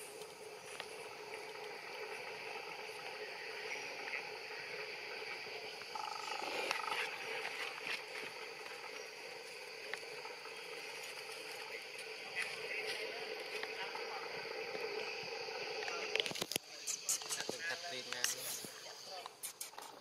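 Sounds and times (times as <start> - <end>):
constant outdoor drone: 0.0 - 20.0.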